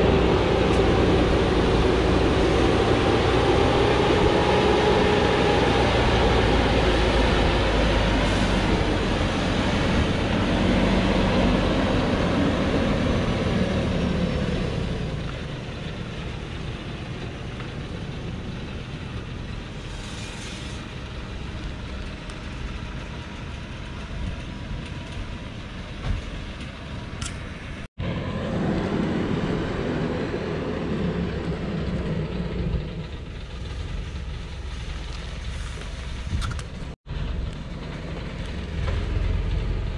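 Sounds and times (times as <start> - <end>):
truck diesel engine: 0.0 - 39.9.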